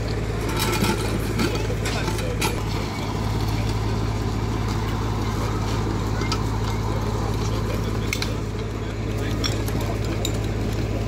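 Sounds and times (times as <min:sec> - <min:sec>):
fire engine engine running: 0:00.0 - 0:11.0.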